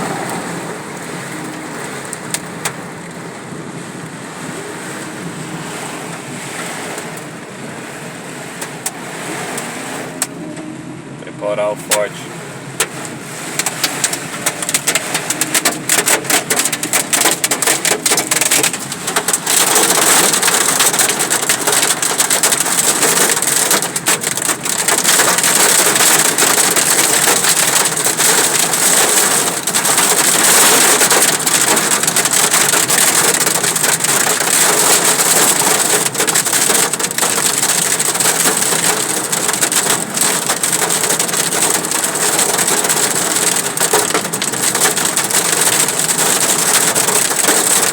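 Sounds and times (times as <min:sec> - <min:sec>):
hail and rain on car roof: 0:00.0 - 0:10.4, 0:11.4 - 0:47.9.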